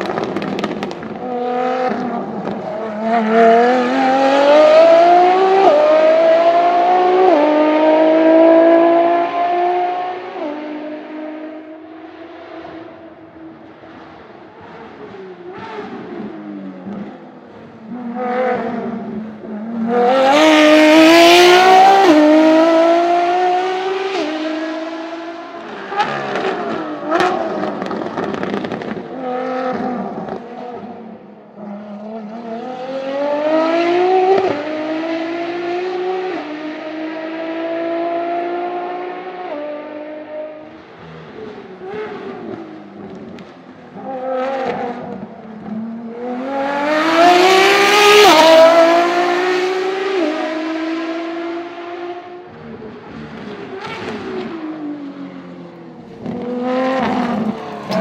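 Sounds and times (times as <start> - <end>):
sports car engine at full throttle: 0.0 - 58.0.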